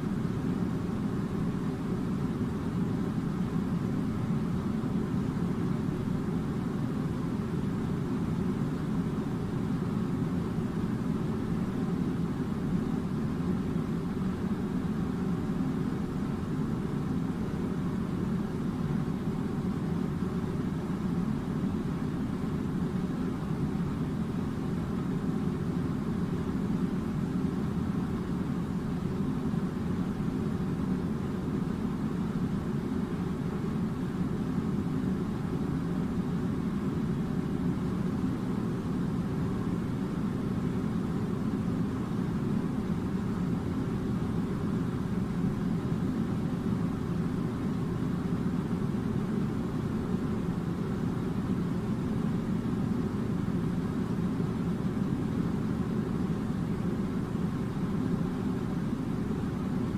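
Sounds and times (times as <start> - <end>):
air conditioner droning: 0.0 - 59.9.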